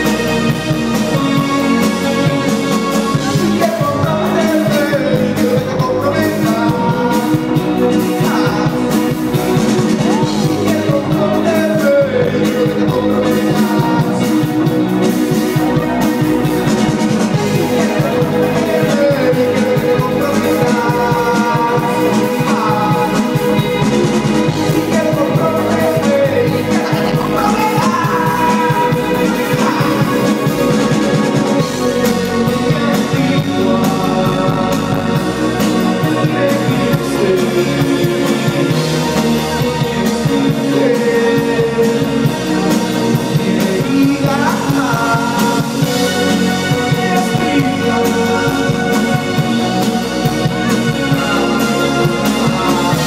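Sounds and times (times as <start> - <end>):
live rock band playing: 0.0 - 53.0
person singing: 0.0 - 53.0.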